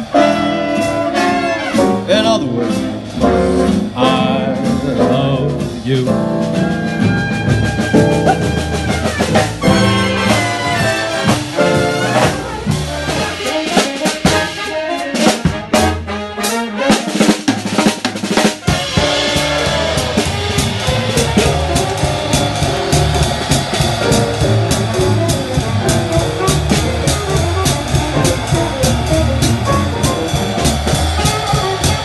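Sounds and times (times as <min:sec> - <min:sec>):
big band jazz: 0:00.0 - 0:32.0
drum kit break: 0:00.0 - 0:32.0.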